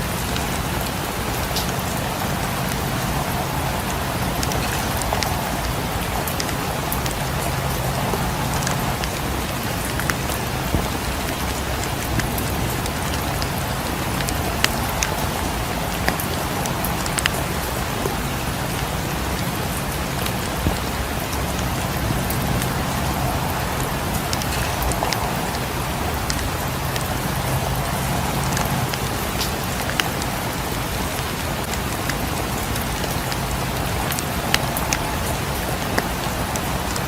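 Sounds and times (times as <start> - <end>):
low rumble: 0.0 - 31.4
steady rain: 0.0 - 37.0
wood fire crackling: 0.0 - 37.0.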